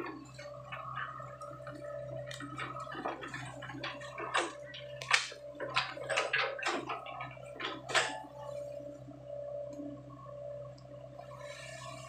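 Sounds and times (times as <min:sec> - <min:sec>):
hydraulic whine: 0:00.0 - 0:12.0.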